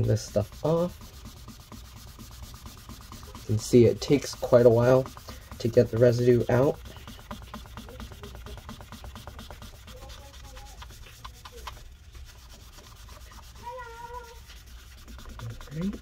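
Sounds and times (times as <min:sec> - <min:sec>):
paper towel rubbing on metal: 0:00.0 - 0:16.0.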